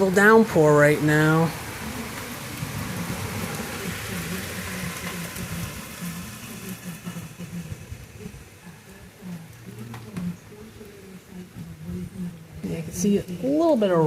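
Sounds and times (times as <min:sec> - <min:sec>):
rain downpour: 0:00.0 - 0:14.0.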